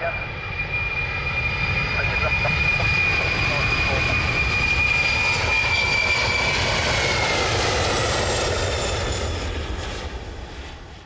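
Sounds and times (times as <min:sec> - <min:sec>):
jet engines roaring with whine: 0:00.0 - 0:11.0.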